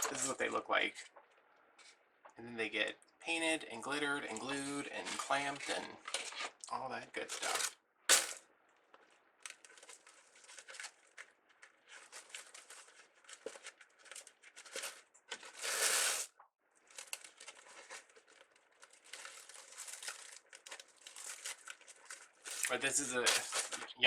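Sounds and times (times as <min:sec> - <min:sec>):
plastic crinkling and rustling: 0:04.2 - 0:24.0.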